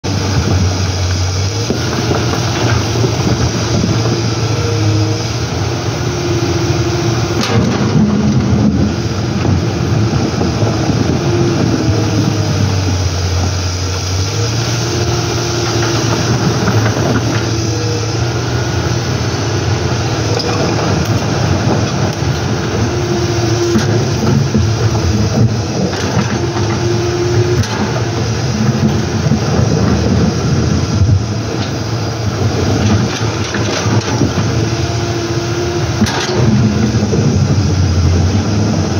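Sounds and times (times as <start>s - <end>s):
excavator diesel engine working: 0.0s - 38.9s
shallow river water rushing: 0.1s - 38.9s.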